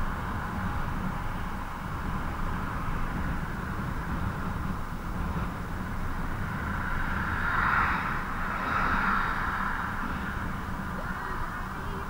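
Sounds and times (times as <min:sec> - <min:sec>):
electric motorcycle ride noise: 0:00.0 - 0:12.0
low unsteady rumble: 0:00.0 - 0:12.0.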